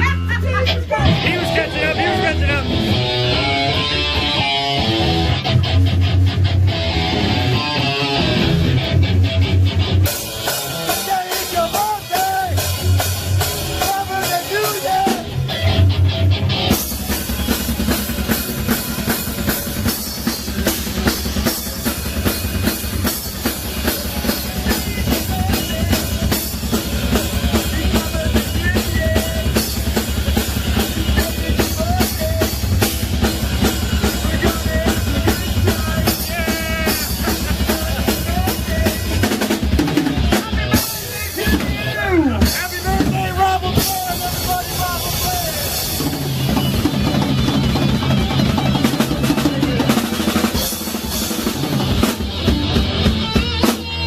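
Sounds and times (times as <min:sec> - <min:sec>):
bass guitar: 0:00.0 - 0:54.0
drums fast driving beat: 0:00.0 - 0:54.0
electric guitar: 0:00.0 - 0:54.0.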